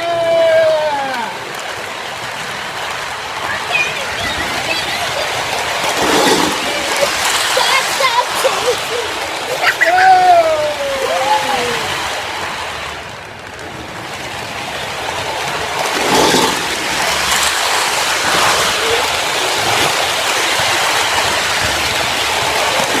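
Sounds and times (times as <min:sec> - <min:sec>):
train rumbling and clattering: 0:01.1 - 0:23.0.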